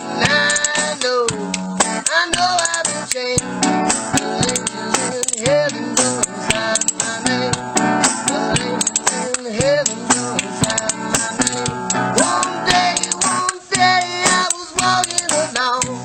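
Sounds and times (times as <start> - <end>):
plucked guitar music: 0.0 - 16.0
sharp clicking strokes: 0.2 - 16.0.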